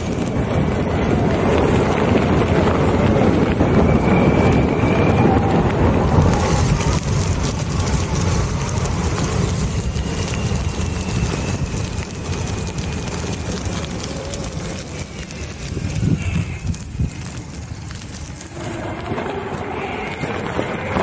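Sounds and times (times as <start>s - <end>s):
tyres rumbling over gravel: 0.0s - 21.0s
wind noise on microphone: 0.0s - 21.0s.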